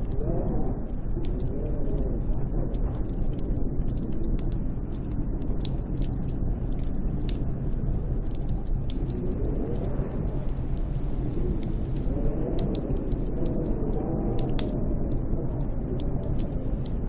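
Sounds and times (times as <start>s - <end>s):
sharp ticks and crackles: 0.0s - 17.0s
wind rushing with low rumble: 0.0s - 17.0s.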